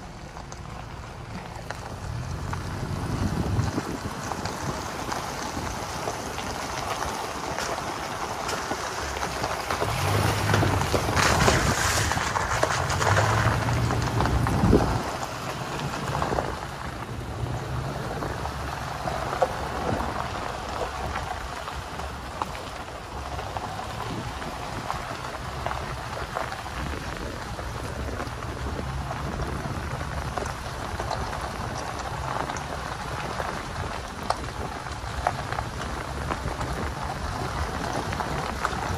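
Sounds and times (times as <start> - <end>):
tyres crunching on gravel: 0.0 - 38.9
vehicle engine running: 0.0 - 38.9.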